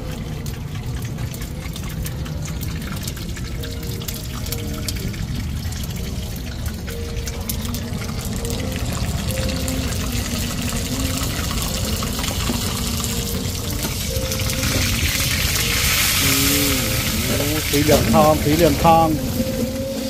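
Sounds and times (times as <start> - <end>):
oil sizzling in pans: 0.0 - 20.0.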